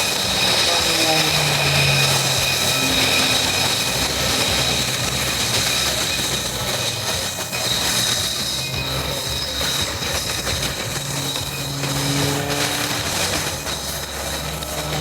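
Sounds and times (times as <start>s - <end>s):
jet engine rushing with whine: 0.0s - 15.0s.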